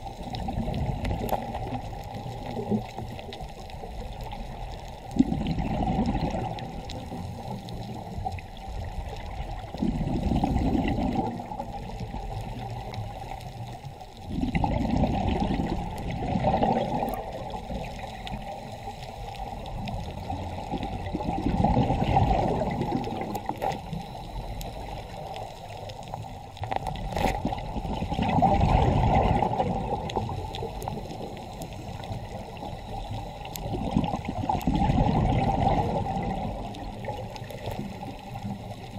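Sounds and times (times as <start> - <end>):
underwater bubbling and rumbling: 0.0 - 38.9.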